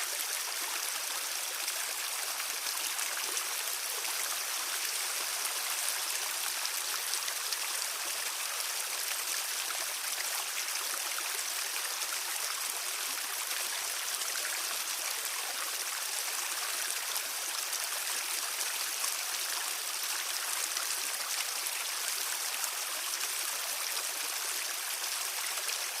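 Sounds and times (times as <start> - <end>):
stream babbling over stones: 0.0 - 26.0.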